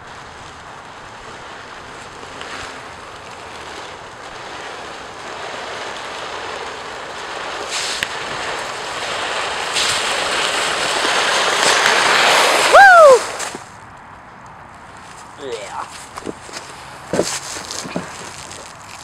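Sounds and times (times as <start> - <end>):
plastic sled scraping on ice: 0.0 - 13.7, 14.9 - 19.0.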